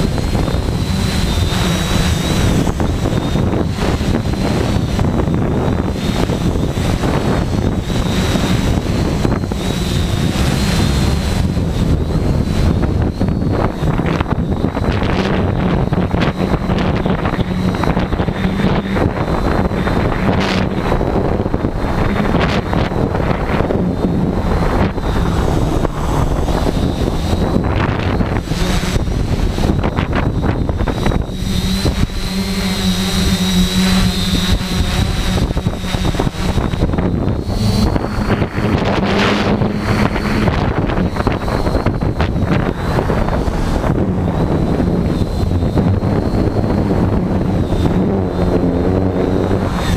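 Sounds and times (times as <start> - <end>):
drone motors humming: 0.0 - 49.9
wind buffeting microphone: 0.0 - 49.9.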